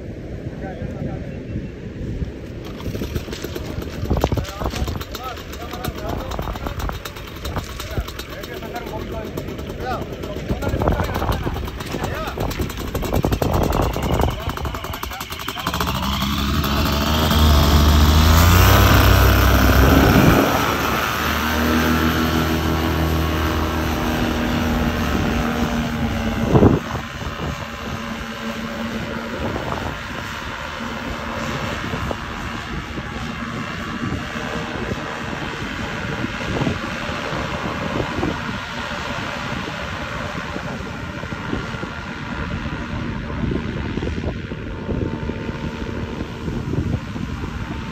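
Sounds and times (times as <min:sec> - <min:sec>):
engine and propeller droning: 0:00.0 - 0:47.9.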